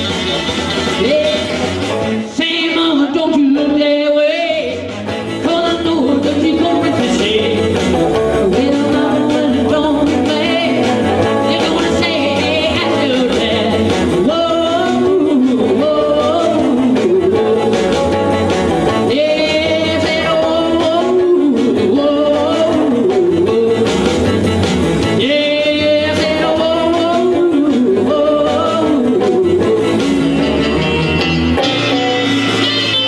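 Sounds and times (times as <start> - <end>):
electric guitar: 0.0 - 33.0
steady bass beat: 0.0 - 33.0
man singing into microphone: 0.9 - 18.2, 18.9 - 24.2, 25.1 - 30.7.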